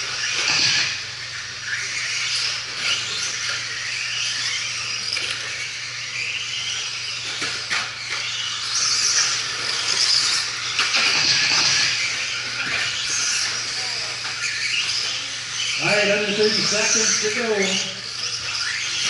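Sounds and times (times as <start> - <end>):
rc truck motors whining: 0.0 - 19.0.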